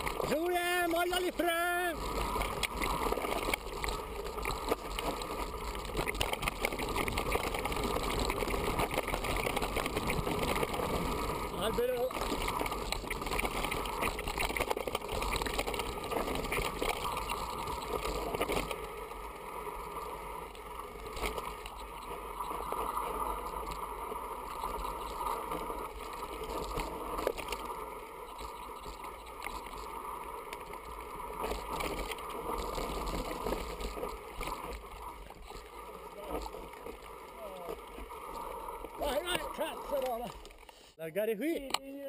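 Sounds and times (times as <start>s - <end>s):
wind and tyre noise: 0.0s - 40.7s.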